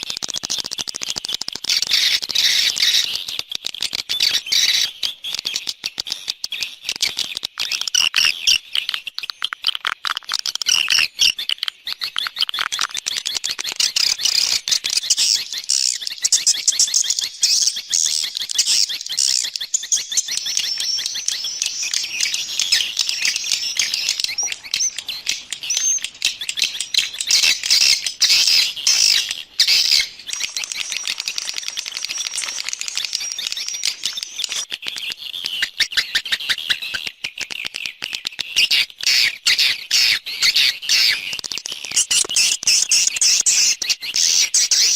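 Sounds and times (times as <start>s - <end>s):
swiftlets chirping and twittering: 0.0s - 37.1s, 38.6s - 44.9s.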